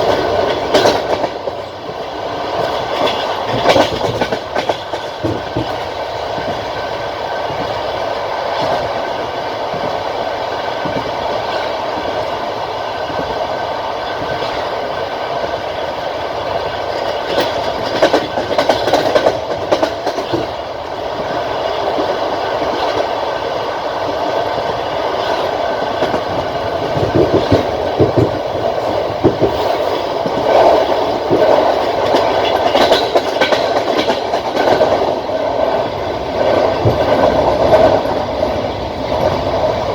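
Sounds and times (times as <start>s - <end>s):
train rumbling on track: 0.0s - 39.9s
wheels clacking over rail joints: 0.0s - 39.9s.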